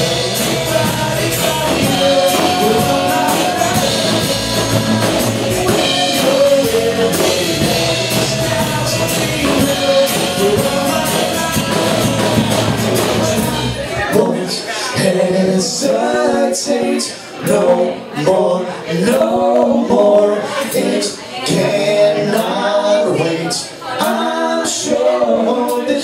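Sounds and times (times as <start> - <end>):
voices singing in harmony: 0.0 - 26.0.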